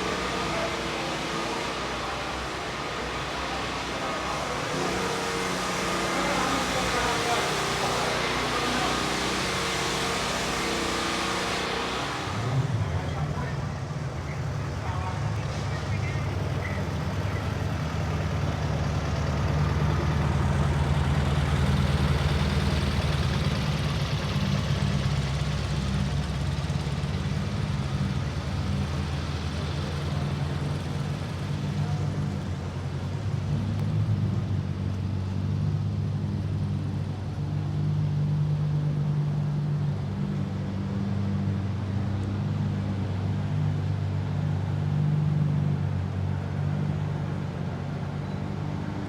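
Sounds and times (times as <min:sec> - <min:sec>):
vehicle engine rumbling: 0:00.0 - 0:49.0.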